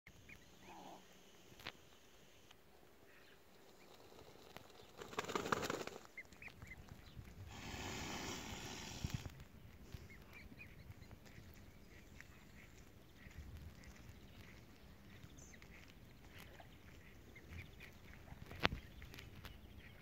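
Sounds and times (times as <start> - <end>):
cygnets peeping: 0.1 - 5.2, 5.8 - 20.0.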